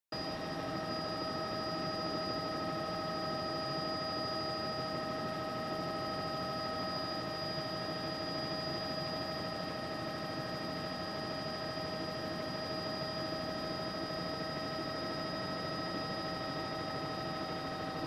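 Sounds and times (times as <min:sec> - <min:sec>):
helicopter rush and whine: 0:00.2 - 0:18.0.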